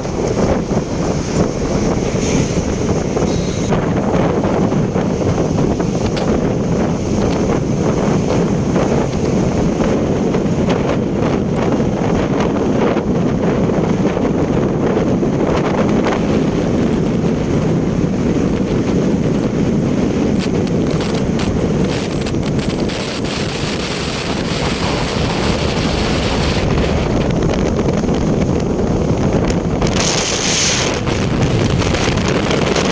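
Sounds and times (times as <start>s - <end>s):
road rumble: 0.0s - 32.9s
wind rush on microphone: 0.0s - 32.9s.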